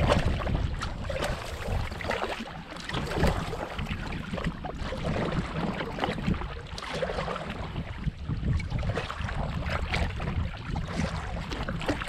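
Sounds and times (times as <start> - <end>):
paddle splashes and drips: 0.0 - 12.0
wind rumble on microphone: 0.0 - 12.0.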